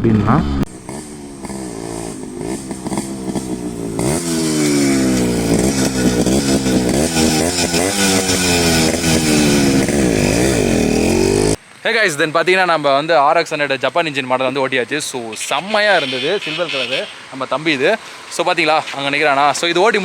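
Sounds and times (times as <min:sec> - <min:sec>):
motorcycle engine revving: 0:00.0 - 0:11.6, 0:15.0 - 0:20.0.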